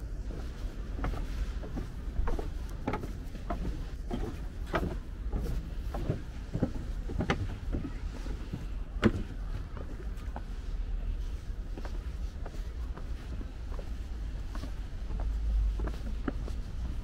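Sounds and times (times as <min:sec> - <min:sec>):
footsteps on paved path: 0:00.0 - 0:17.0
low steady rumble: 0:00.0 - 0:17.0.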